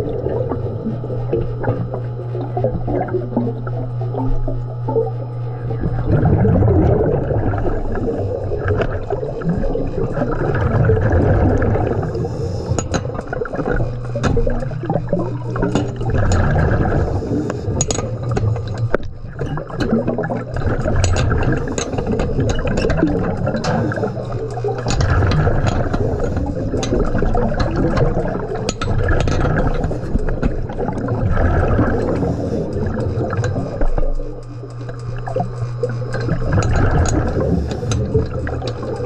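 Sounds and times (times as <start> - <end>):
underwater breathing bubbles: 0.0 - 39.0.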